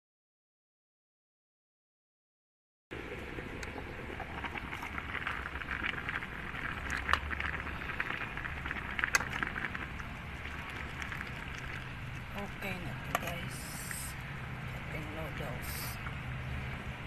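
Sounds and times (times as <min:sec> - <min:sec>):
water boiling and bubbling: 0:02.9 - 0:17.0.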